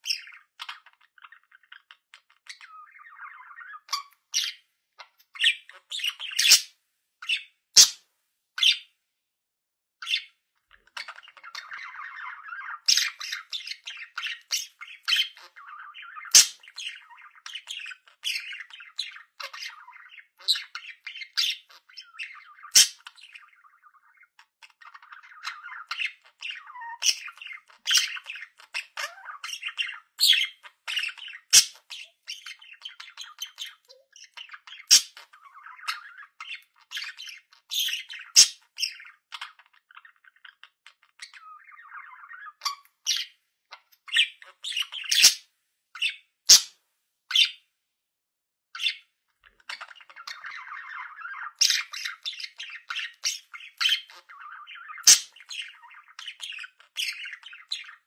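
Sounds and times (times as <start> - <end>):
bird chirps and squawks: 0.0 - 8.0, 8.6 - 8.9, 10.0 - 47.6, 48.8 - 58.0
budgerigar chattering: 5.3 - 8.0, 10.8 - 43.3, 44.1 - 45.4, 46.0 - 46.7, 48.8 - 58.0.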